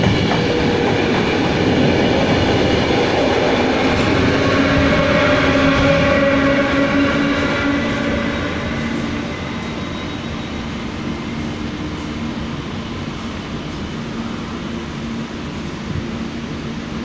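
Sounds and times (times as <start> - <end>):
electric locomotive whine: 0.0 - 17.0
rail noise: 0.0 - 17.0.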